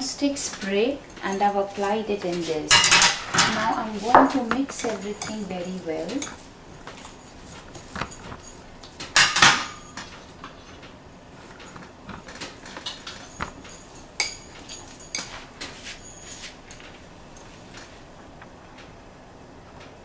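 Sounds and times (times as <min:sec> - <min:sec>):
metal and glass clinking: 0:00.6 - 0:17.5.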